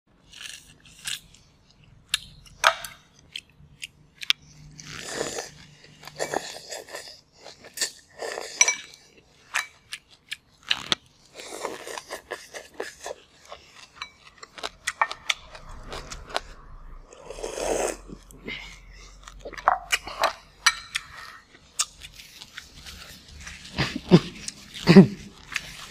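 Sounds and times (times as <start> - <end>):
crunchy chewing: 0.2 - 25.9.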